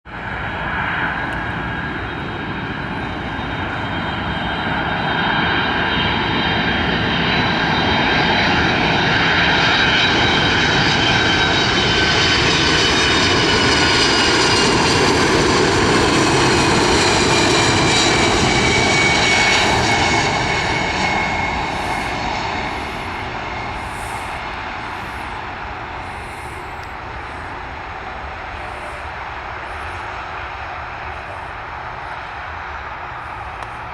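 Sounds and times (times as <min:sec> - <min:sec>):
jet airliner engines whining: 0:00.1 - 0:33.9.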